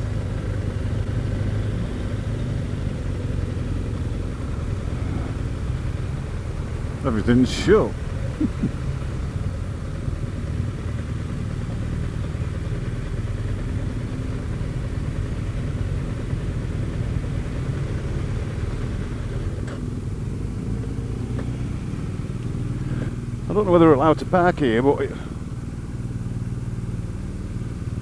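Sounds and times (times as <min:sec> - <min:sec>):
motorcycle engine at low revs: 0:00.0 - 0:28.0.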